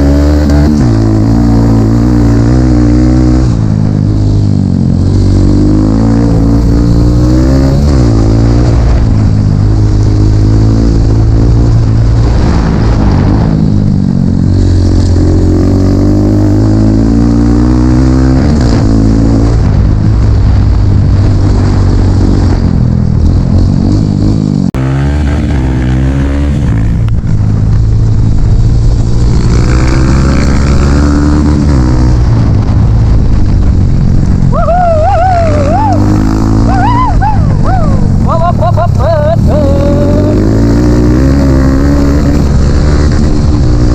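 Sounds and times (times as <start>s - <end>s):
dirt bike engine revving: 0.0s - 19.8s, 21.4s - 27.1s, 28.9s - 32.4s, 33.3s - 43.9s.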